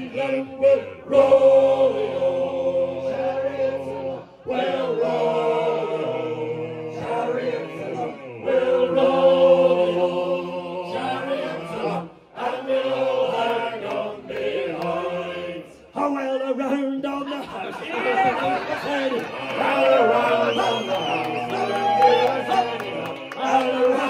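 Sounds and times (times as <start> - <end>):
group singing a sea shanty: 0.0 - 16.0, 17.7 - 24.0.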